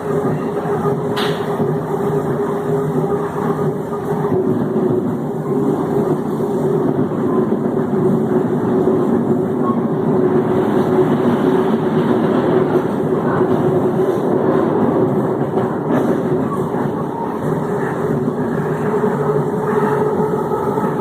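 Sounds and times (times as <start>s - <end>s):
electric train humming: 0.0s - 21.0s
train running gear rumble: 0.0s - 21.0s.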